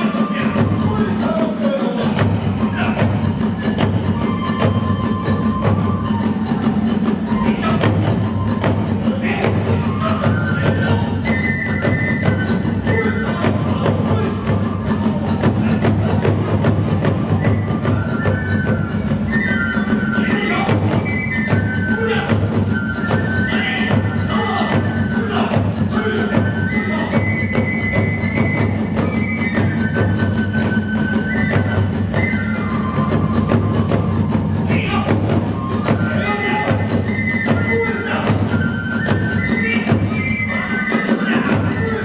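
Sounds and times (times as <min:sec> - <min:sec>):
bamboo flute melody: 0:00.0 - 0:42.0.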